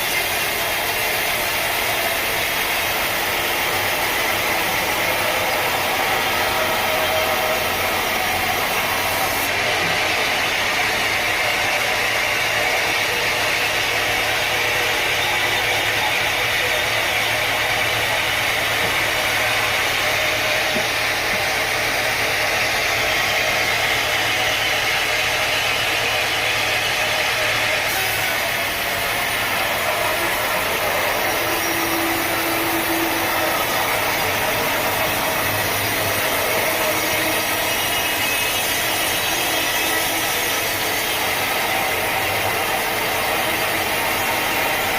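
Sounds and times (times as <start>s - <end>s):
sawmill machinery drone: 0.0s - 44.9s.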